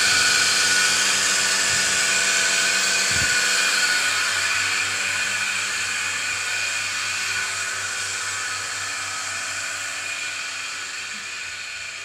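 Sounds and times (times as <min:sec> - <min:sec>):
vacuum pump hissing whine: 0:00.0 - 0:12.0.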